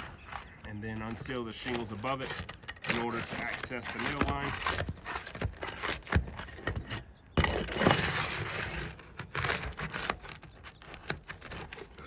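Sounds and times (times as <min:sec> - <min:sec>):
roof shingles scraping: 0:00.0 - 0:12.0
shingle clicks: 0:00.0 - 0:12.0.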